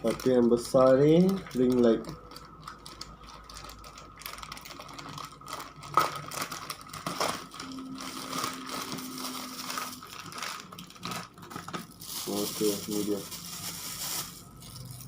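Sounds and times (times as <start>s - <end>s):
faint steady hum: 0.0s - 15.0s
packaging crinkling: 0.0s - 15.0s.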